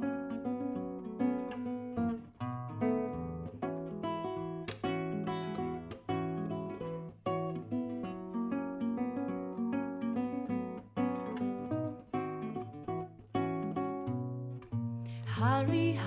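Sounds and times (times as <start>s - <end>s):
acoustic guitar jazz playing: 0.0s - 16.0s.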